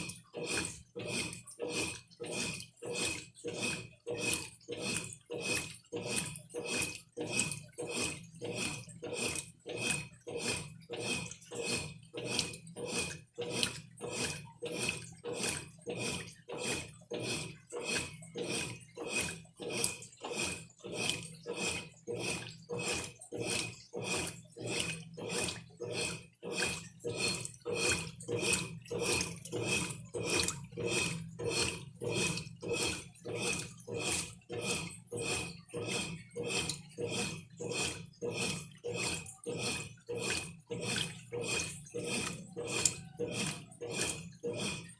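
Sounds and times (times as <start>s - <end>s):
washing machine agitating: 0.0s - 44.9s
water sloshing: 0.0s - 44.9s.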